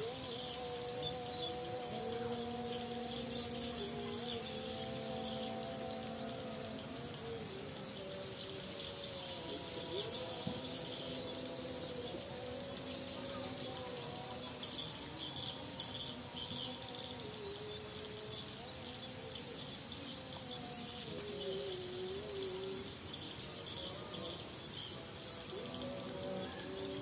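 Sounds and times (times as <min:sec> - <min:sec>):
birds twittering: 0:00.0 - 0:27.0.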